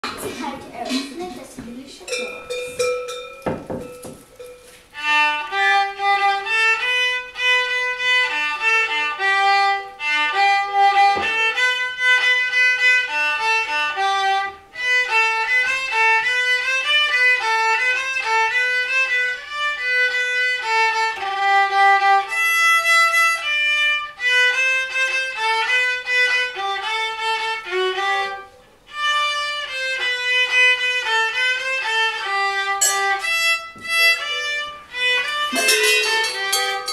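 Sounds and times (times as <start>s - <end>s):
girl playing solo violin: 4.9s - 36.9s.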